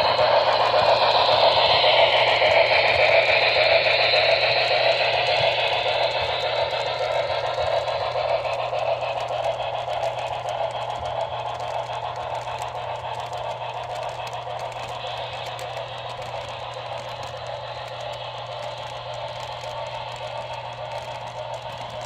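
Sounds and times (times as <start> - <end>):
fine rapid clicking: 0.0 - 22.0
model train wheels rumbling: 0.0 - 22.0.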